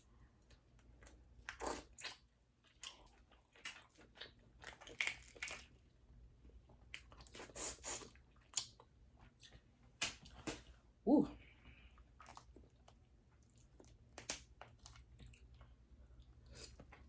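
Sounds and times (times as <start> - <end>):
crunching and chewing: 0.3 - 10.8, 11.9 - 17.0.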